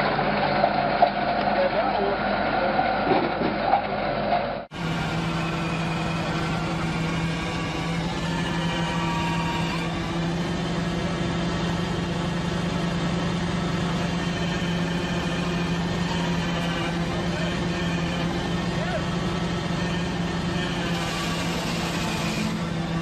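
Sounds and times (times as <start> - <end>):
harvesting machine engine hum: 0.0 - 23.0.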